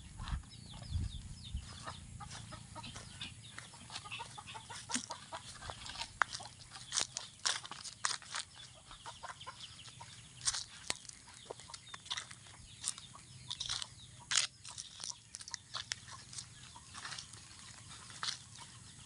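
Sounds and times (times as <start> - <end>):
chickens clucking: 0.0 - 19.0
dry leaves crackling and rustling: 1.7 - 19.0.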